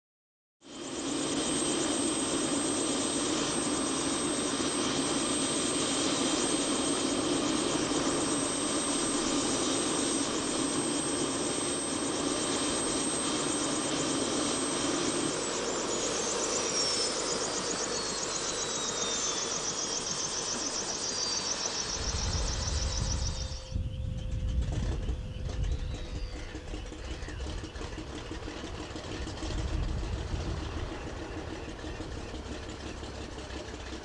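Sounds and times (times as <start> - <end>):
helicopter engine and rotor: 0.6 - 34.0
turbine whine falling in pitch: 0.7 - 34.0.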